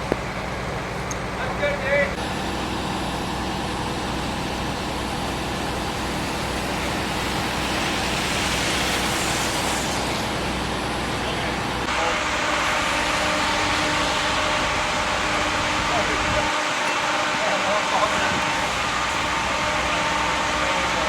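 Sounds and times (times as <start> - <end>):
engine running with hum: 0.0 - 21.0.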